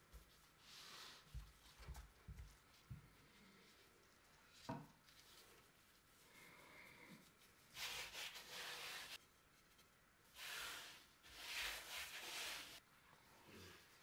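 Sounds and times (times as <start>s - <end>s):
hand brushing flour on dough: 0.0s - 12.8s.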